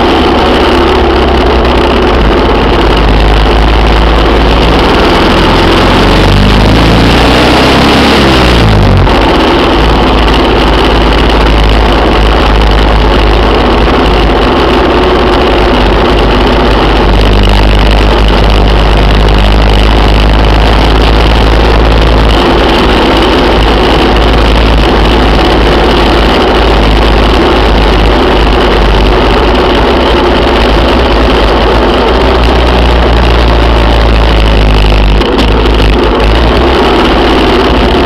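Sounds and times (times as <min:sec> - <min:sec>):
vehicle engine running: 0:00.0 - 0:38.0
wind and road noise: 0:00.0 - 0:38.0.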